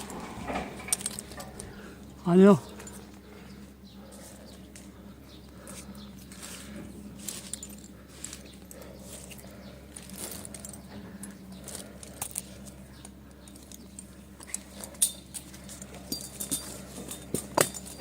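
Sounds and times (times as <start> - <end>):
light metal clinks and rustles: 0.0 - 18.0
steady low hum: 0.0 - 18.0.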